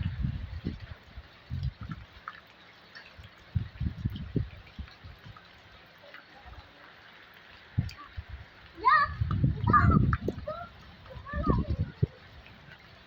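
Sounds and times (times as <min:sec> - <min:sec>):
rain hissing: 0:00.0 - 0:13.0
water drips: 0:00.0 - 0:13.0.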